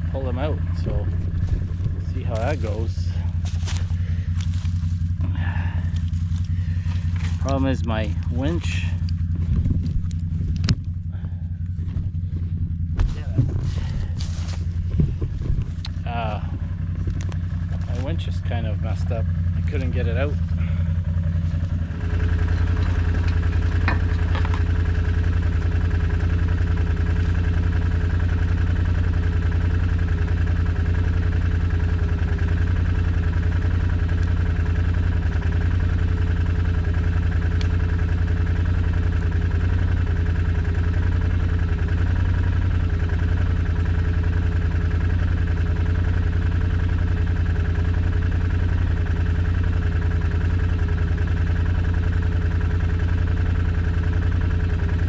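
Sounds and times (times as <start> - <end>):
atv engine idling: 0.0 - 55.0.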